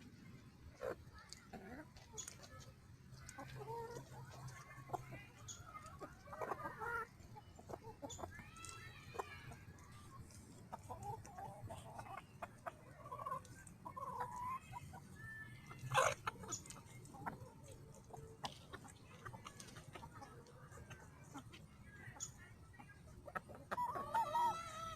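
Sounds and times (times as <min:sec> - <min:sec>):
chickens clucking: 0:00.0 - 0:24.9.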